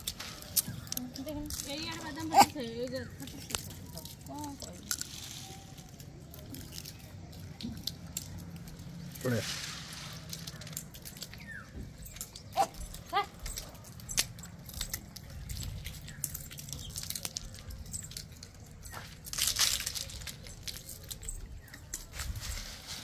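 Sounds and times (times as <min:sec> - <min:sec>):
rustling: 0:00.0 - 0:23.0.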